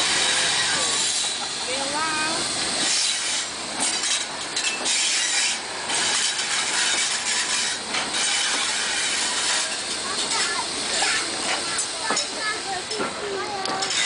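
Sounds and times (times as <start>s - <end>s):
locomotive steam hissing: 0.0s - 14.0s.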